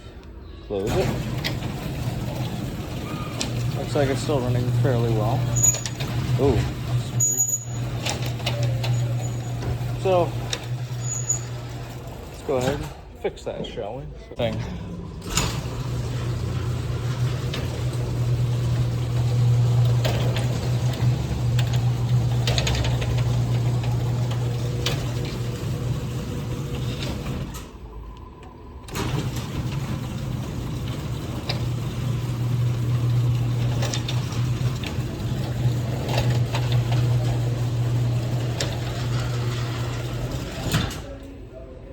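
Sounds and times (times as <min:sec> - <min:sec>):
garage door motor hum: 0:00.7 - 0:13.2, 0:14.4 - 0:41.6
rollers clicking and rattling: 0:00.8 - 0:13.0, 0:14.8 - 0:27.7, 0:28.9 - 0:41.2.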